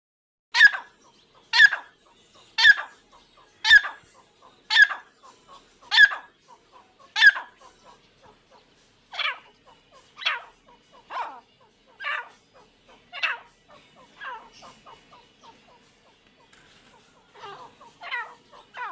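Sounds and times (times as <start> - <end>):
partridges calling: 0.6 - 18.9.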